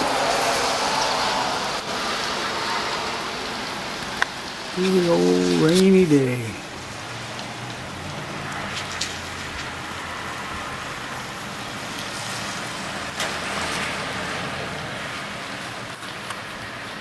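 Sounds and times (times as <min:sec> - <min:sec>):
car tyres hissing on wet road: 0:00.0 - 0:05.6, 0:06.6 - 0:17.0
steady rain falling: 0:00.0 - 0:17.0.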